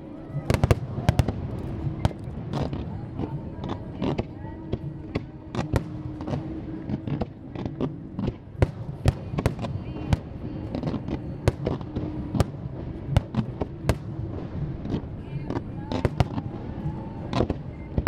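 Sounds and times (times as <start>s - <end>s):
fireworks bursting with bangs: 0.3s - 18.0s
fireworks crackling: 0.4s - 18.0s.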